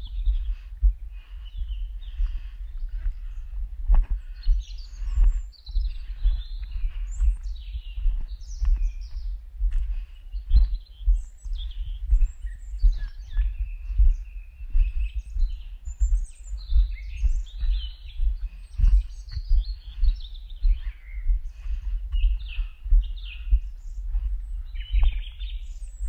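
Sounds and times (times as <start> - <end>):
footsteps walking: 0.0 - 26.0
songbirds chirping and trilling: 0.0 - 26.0.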